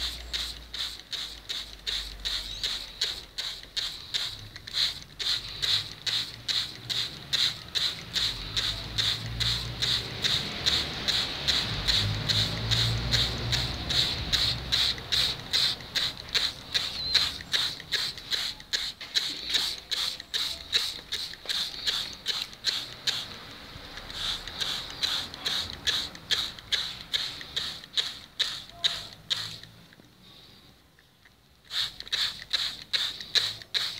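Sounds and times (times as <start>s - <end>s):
spray bottle hissing: 0.0s - 30.6s, 31.6s - 33.9s.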